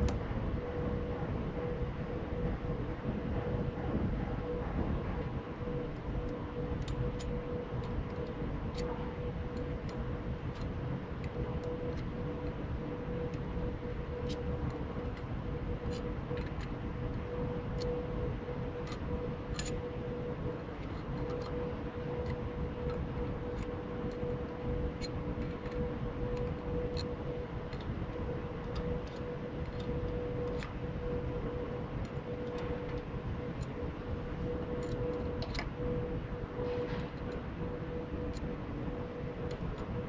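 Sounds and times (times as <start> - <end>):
workshop hum: 0.0 - 40.0.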